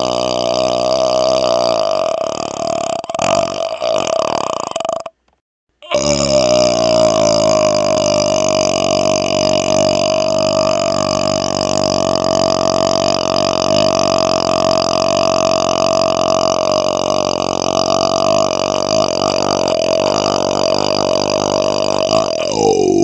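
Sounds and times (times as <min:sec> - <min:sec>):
man burping: 0:00.0 - 0:23.0.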